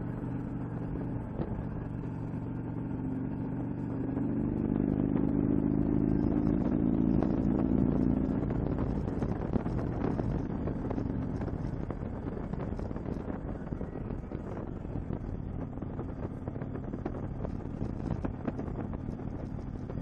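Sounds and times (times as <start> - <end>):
motorcycle engine cruising: 0.0 - 20.0
wind rush on microphone: 0.0 - 20.0.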